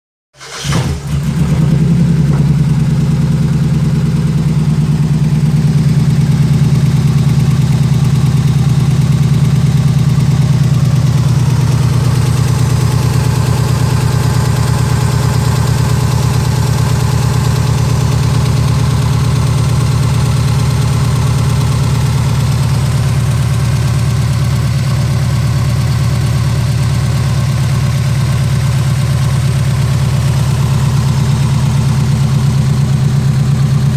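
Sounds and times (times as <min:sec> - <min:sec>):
car engine idling: 0:00.5 - 0:33.9.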